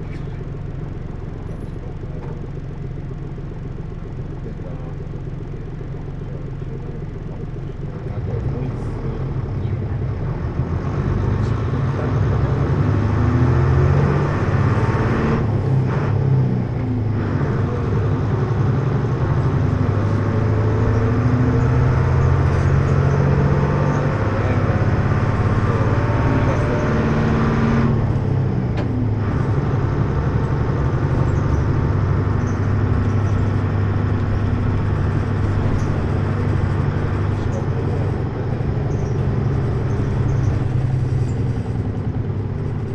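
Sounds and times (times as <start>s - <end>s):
bus diesel engine: 0.0s - 42.9s.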